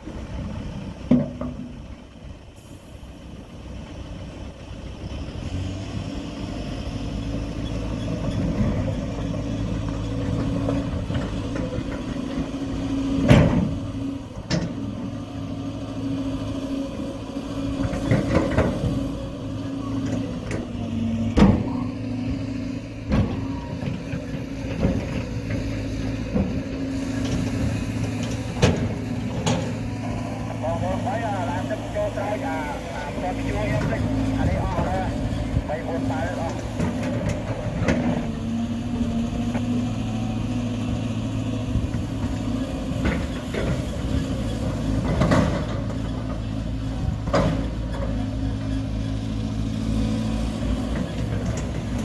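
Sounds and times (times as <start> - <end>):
diesel construction machinery running: 0.0 - 52.0.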